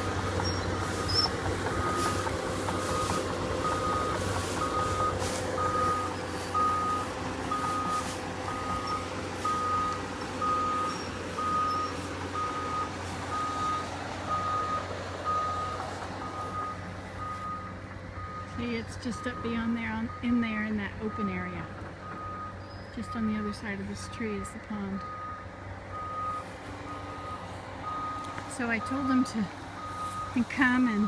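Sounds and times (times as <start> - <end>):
backup alarm beeping: 0.0 - 31.0
diesel engine running: 0.0 - 31.0.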